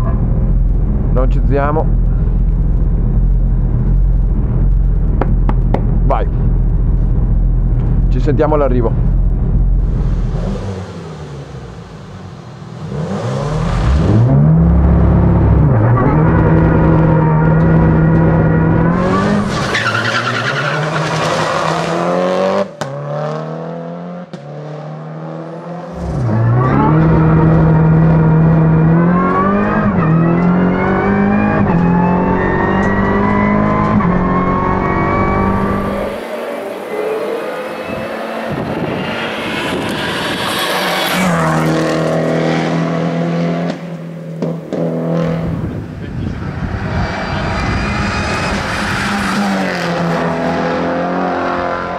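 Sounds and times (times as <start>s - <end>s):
car engine at full throttle: 0.0s - 51.9s.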